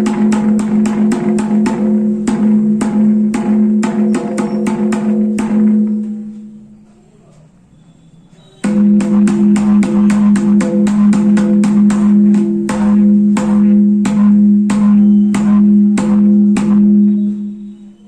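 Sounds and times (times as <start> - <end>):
hand drum fast strokes: 0.0 - 6.3, 8.6 - 17.1.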